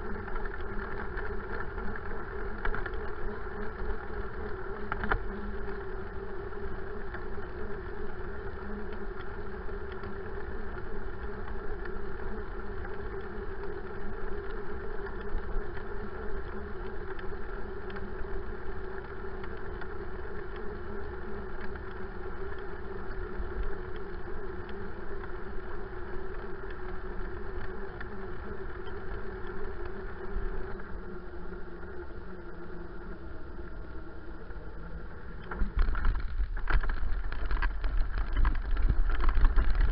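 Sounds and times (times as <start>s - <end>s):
bicycle tyre rumble on tarmac: 0.0s - 39.9s
steady hum: 0.0s - 39.9s.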